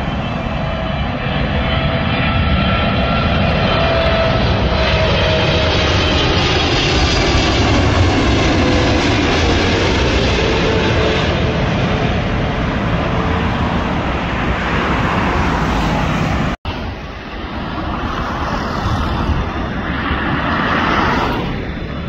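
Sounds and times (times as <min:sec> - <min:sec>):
jet airliner engines roaring: 0:00.0 - 0:22.0
road traffic: 0:00.0 - 0:22.0.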